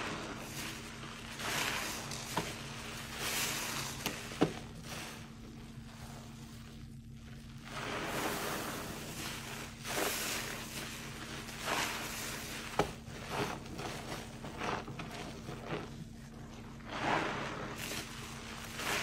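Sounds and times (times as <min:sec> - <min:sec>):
sponge squishing in suds: 0:00.0 - 0:19.0.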